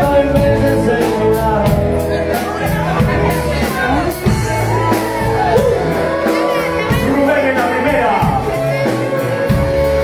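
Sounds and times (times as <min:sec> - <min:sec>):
live rock band playing: 0:00.0 - 0:10.0
man singing: 0:00.0 - 0:10.0.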